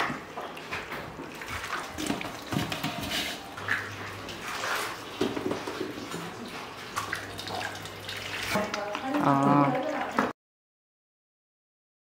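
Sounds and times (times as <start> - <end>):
water splashing and dripping: 0.0 - 10.3.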